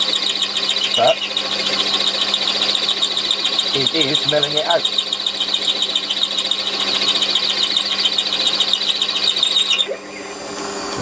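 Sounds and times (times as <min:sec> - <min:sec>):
lathe running hum: 0:00.0 - 0:11.0
milling cutter squealing through metal: 0:00.0 - 0:11.0.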